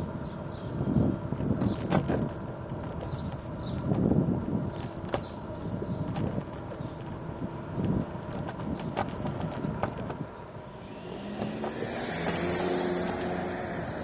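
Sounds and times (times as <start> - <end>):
traffic rumble: 0.0 - 14.0
vehicle engine hum: 0.0 - 14.0.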